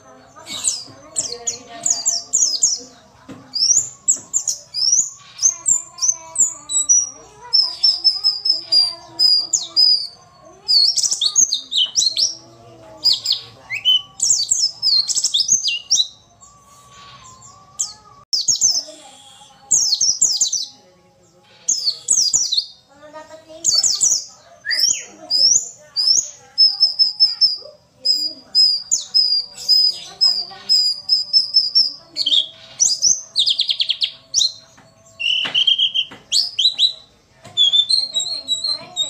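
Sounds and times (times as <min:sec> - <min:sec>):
bird twittering song: 0:00.0 - 0:39.0.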